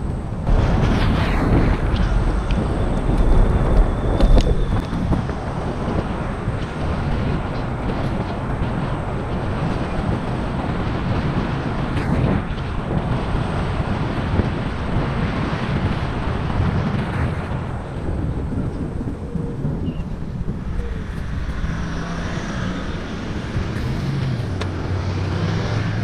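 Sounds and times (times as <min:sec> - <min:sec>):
tyre and road rumble: 0:00.0 - 0:26.0
wind buffeting microphone: 0:00.0 - 0:26.0.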